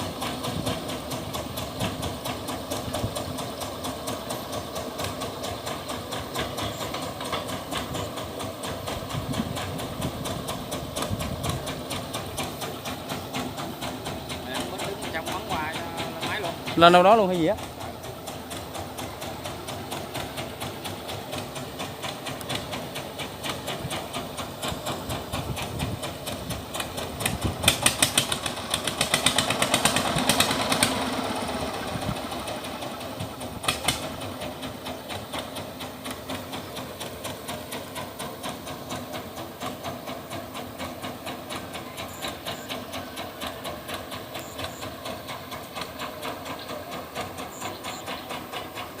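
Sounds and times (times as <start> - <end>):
engine clattering knocks: 0.0 - 49.0
engine running with steady pulse: 0.0 - 49.0.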